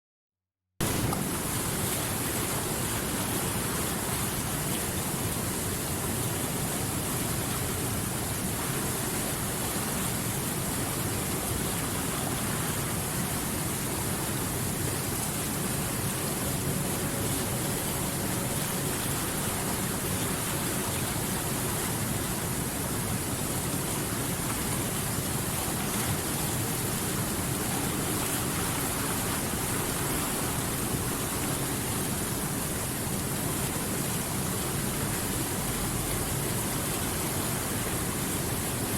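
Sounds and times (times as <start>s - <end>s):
water rushing: 0.8s - 38.9s.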